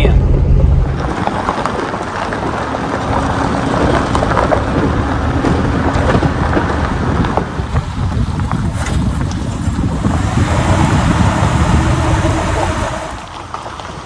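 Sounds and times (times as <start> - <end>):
vehicle rumbling on rough road: 0.0 - 14.0.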